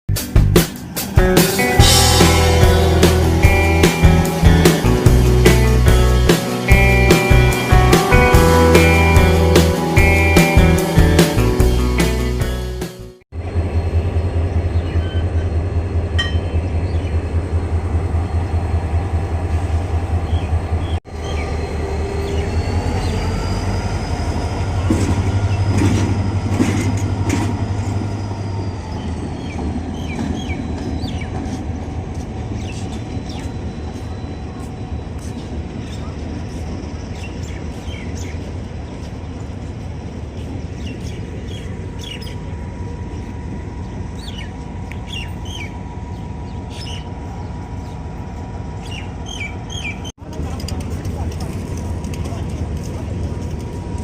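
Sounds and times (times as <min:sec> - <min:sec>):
train low pulsing: 0:00.1 - 0:54.0.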